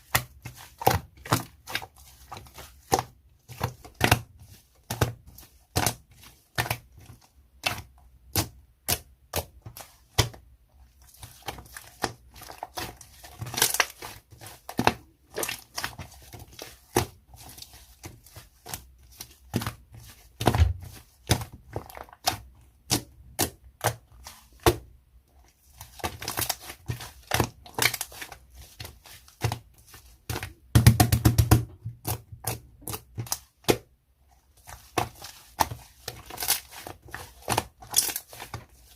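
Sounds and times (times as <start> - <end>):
crackling slime: 0.0 - 24.9, 25.5 - 31.1, 32.0 - 38.9.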